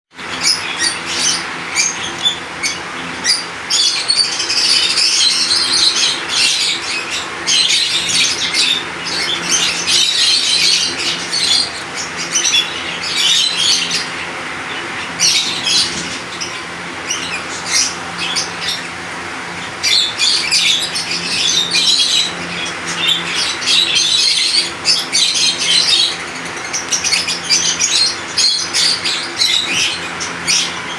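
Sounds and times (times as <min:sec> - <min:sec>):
birds chirping and chattering: 0:00.2 - 0:30.9
steady low hum: 0:00.2 - 0:30.9.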